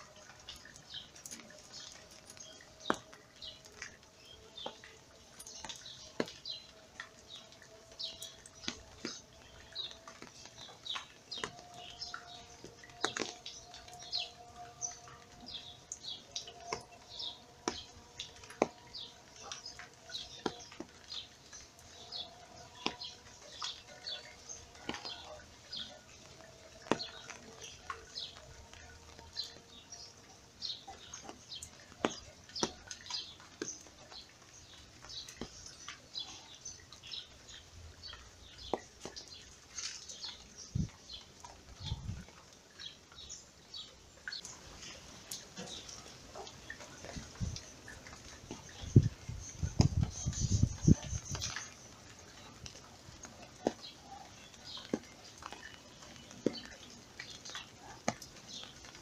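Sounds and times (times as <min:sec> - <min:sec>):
small birds chirping: 0:00.3 - 0:59.0.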